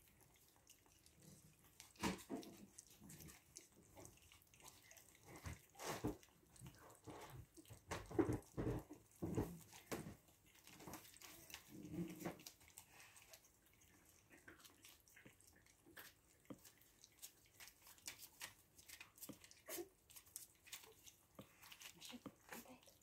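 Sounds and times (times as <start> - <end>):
puppies lapping food: 0.0 - 23.0.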